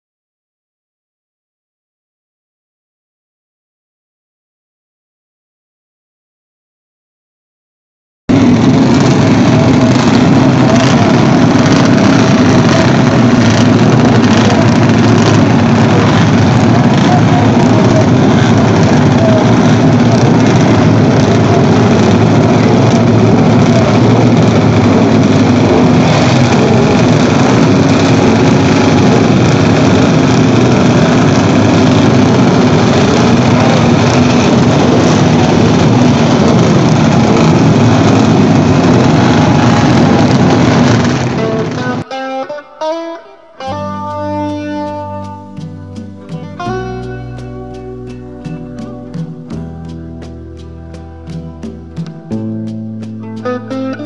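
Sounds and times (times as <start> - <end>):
motorcycle engines idling: 8.3 - 42.0, 43.9 - 54.0.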